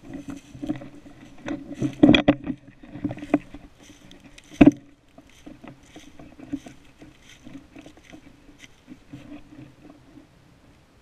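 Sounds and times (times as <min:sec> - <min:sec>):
footsteps through dry leaves: 0:00.0 - 0:09.7.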